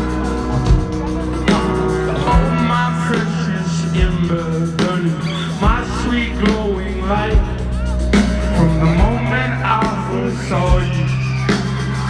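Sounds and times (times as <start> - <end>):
bass and guitar: 0.0 - 12.0
drum beat: 0.0 - 12.0
person singing: 0.0 - 12.0.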